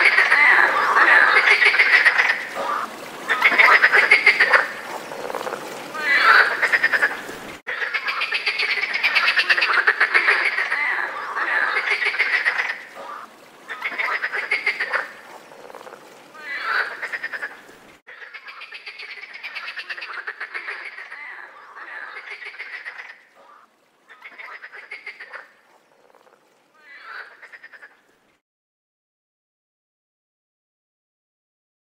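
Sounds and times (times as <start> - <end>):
frogs croaking: 0.0 - 28.2.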